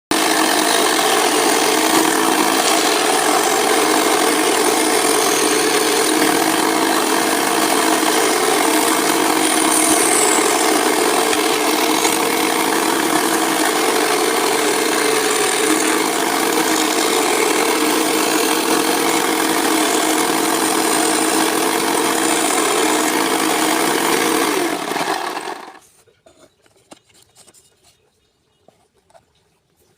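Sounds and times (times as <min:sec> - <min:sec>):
power saw cutting wood: 0:00.0 - 0:25.8.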